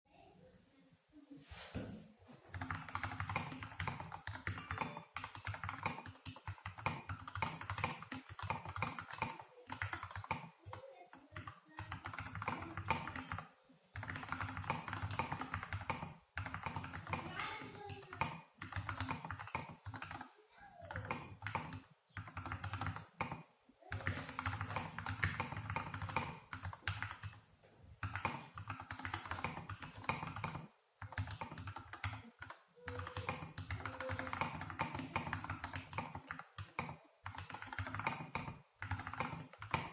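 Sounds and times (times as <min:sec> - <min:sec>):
mechanical keyboard typing: 0:02.5 - 0:27.4, 0:28.0 - 0:39.9.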